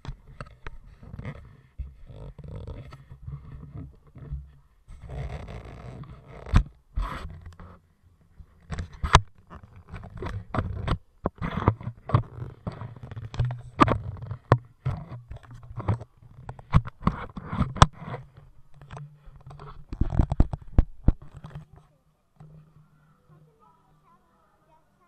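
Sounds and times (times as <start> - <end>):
rubbing on plastic camera case: 0.0 - 7.8, 8.4 - 21.8
sharp clicks and knocks: 0.0 - 22.6.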